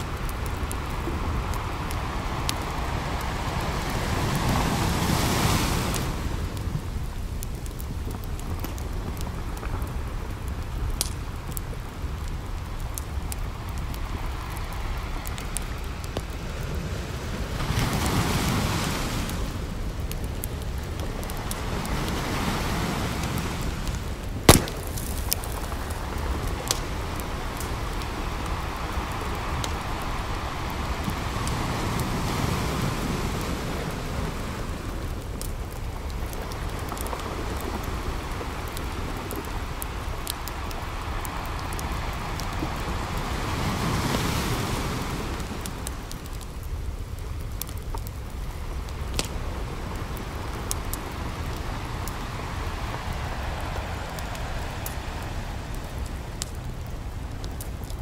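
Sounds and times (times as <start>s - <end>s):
ocean surf: 0.0s - 7.4s, 11.6s - 46.8s, 48.3s - 58.0s
campfire crackling and popping: 0.0s - 58.0s.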